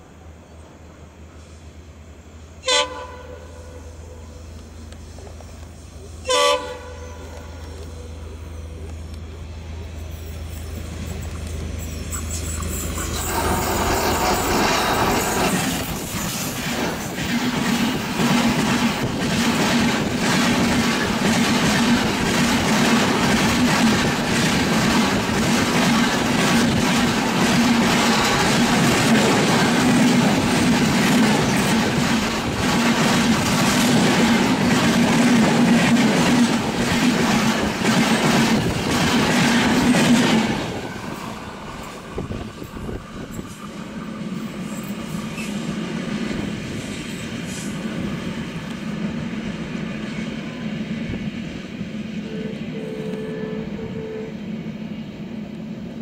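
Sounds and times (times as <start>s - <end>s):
low train hum: 0.0s - 56.0s
train rumble: 0.0s - 56.0s.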